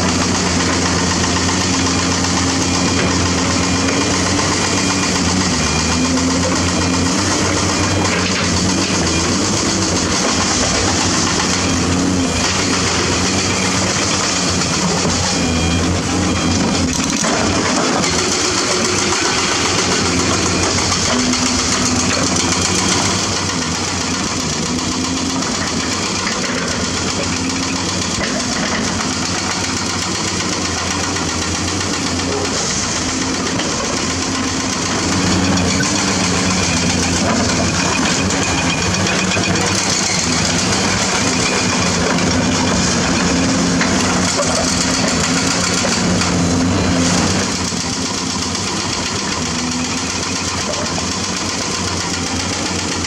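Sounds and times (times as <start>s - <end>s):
excavator diesel engine under load: 0.0s - 53.0s.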